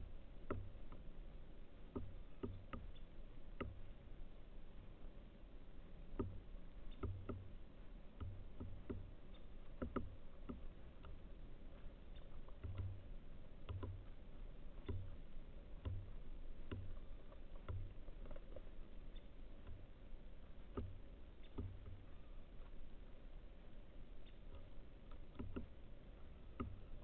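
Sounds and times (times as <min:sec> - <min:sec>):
birds pecking at a feeder: 0:00.0 - 0:27.0.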